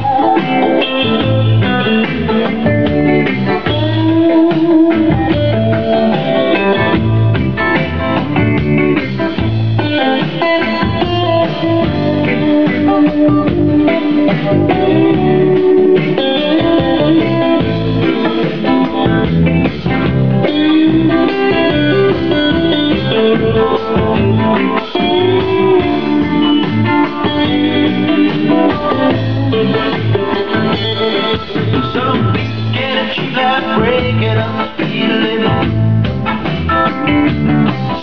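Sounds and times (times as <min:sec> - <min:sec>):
guitar-led music with bass: 0:00.0 - 0:38.0.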